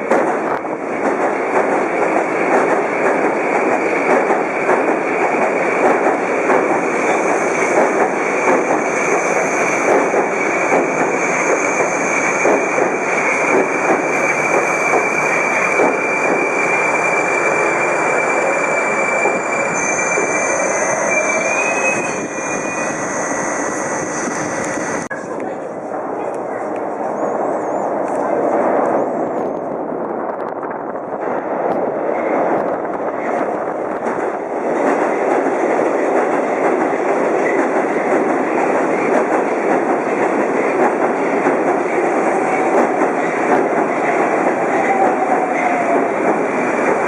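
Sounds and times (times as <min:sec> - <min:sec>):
metro train rumbling past: 0:00.0 - 0:47.0.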